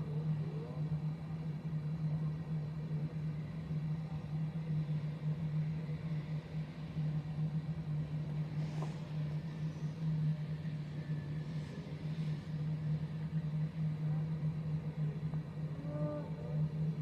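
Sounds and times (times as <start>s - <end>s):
steady low drone from sky: 0.0s - 17.0s.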